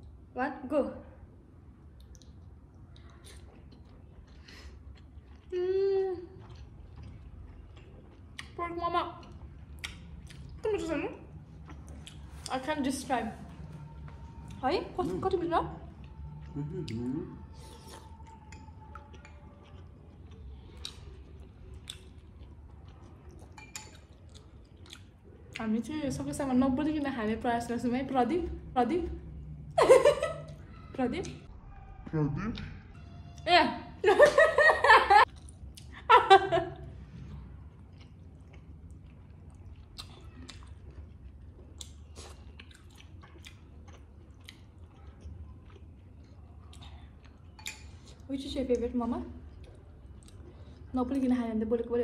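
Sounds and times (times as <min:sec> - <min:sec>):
people chewing food: 0:01.3 - 0:33.4, 0:34.2 - 0:52.0.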